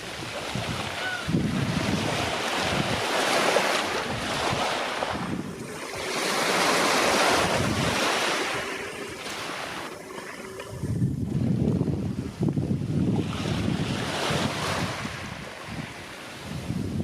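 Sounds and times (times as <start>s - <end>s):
sea surf washing ashore: 0.0s - 17.0s
wind buffeting microphone: 0.0s - 17.0s.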